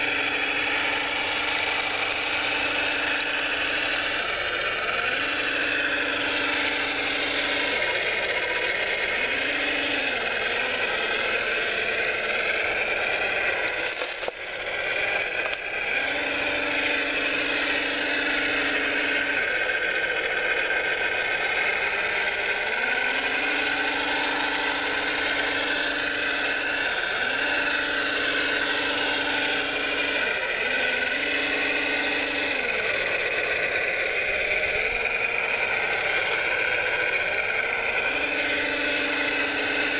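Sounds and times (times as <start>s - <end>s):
low hum: 0.0s - 39.9s
model motors and gears whining: 0.0s - 39.9s.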